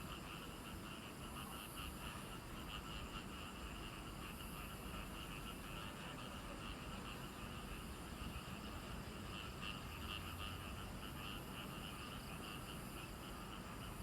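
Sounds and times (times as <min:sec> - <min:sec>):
chorus of frogs croaking: 0:00.0 - 0:14.0.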